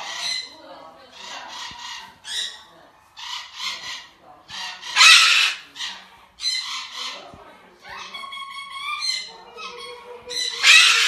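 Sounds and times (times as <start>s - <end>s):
cockatoos squawking: 0.0s - 11.0s.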